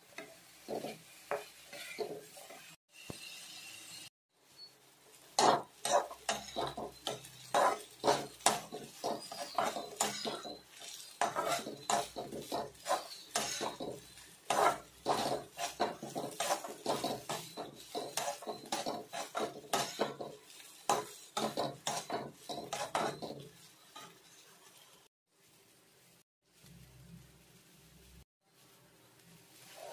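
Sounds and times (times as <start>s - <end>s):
metal spatula scraping a pan: 0.0s - 4.0s, 5.3s - 25.1s, 29.6s - 29.9s.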